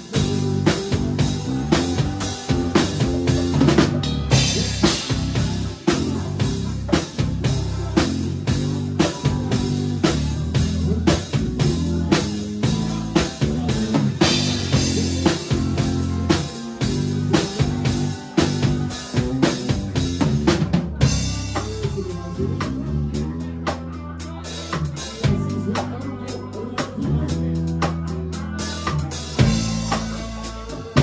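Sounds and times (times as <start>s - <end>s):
drum kit beat: 0.0s - 31.0s
electric bass line: 0.0s - 31.0s.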